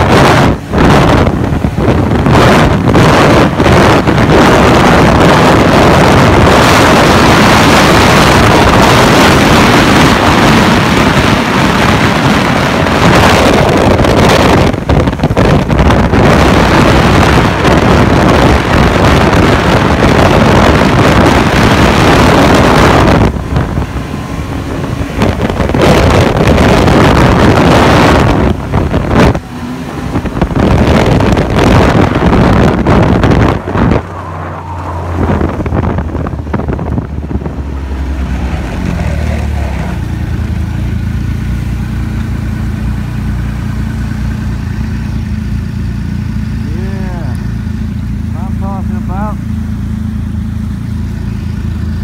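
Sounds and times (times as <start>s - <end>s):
wind buffeting microphone: 0.0s - 48.3s
snowmobile engine at speed: 0.0s - 52.0s.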